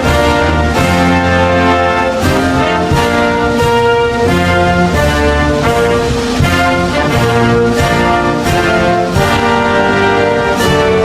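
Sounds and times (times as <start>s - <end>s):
orchestra playing an anthem: 0.0s - 11.0s.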